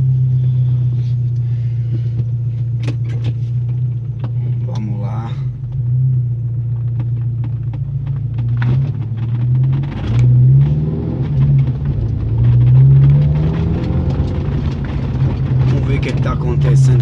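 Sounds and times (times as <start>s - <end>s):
car engine accelerating through gears: 0.0s - 17.0s.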